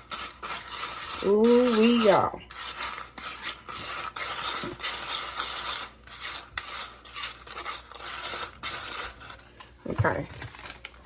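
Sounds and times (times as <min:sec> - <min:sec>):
spoon stirring popcorn kernels: 0:00.0 - 0:10.2.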